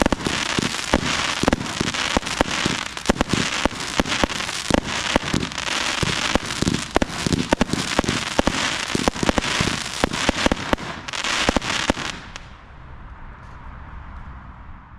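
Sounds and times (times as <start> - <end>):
firework barrage bangs: 0.0 - 12.5
firework crackle: 0.0 - 12.6.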